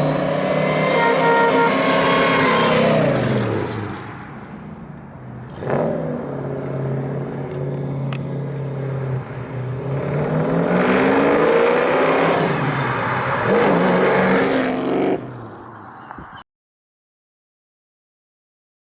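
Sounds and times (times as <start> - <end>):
car engine idling and revving: 0.0 - 16.3.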